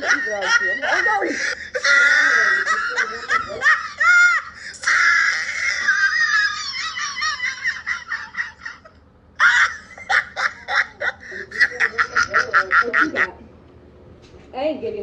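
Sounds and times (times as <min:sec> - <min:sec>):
person shrieking laughter: 0:00.0 - 0:13.3.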